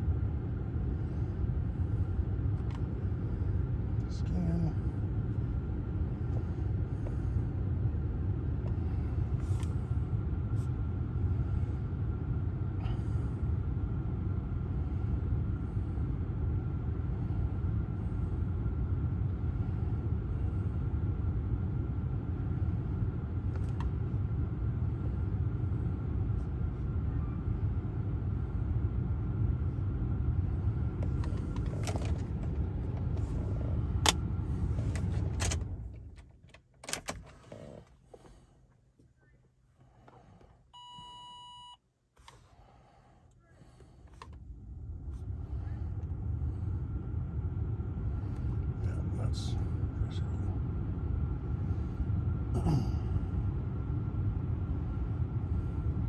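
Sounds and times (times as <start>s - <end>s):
low mechanical rumble: 0.0s - 56.0s.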